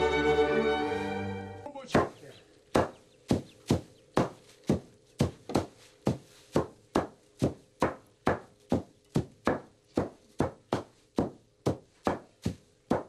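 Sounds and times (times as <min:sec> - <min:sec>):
flails beating grain: 0:00.9 - 0:13.0.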